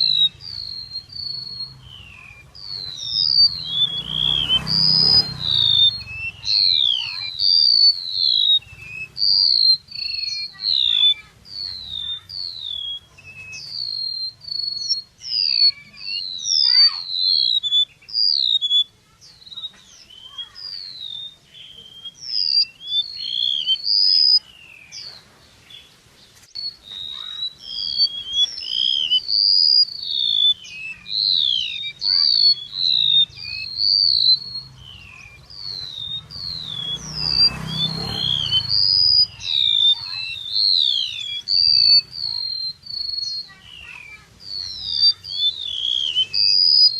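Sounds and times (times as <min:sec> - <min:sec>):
high chirping bird calls: 0:00.0 - 0:46.9.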